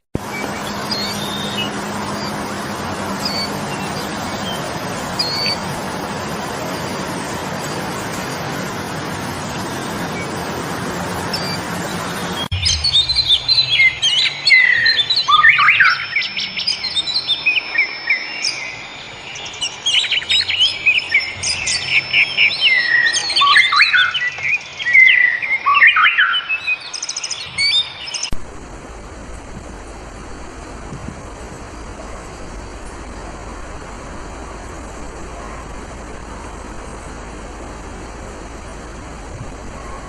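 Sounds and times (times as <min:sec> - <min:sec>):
songbird singing: 0:00.2 - 0:28.4, 0:29.4 - 0:40.0.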